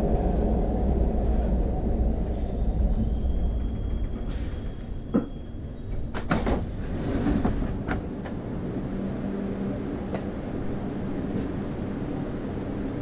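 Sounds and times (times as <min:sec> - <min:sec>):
subway car rumbling: 0:00.0 - 0:13.0.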